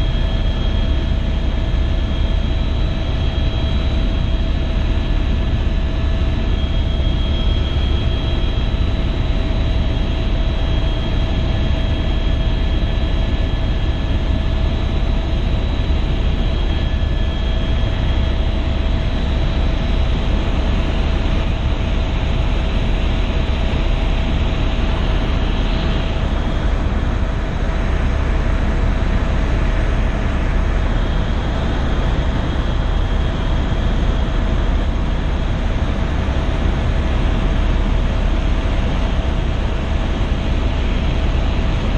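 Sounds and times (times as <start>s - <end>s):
constant engine whine: 0.0s - 41.9s
helicopter rotor and engine rumble: 0.0s - 41.9s.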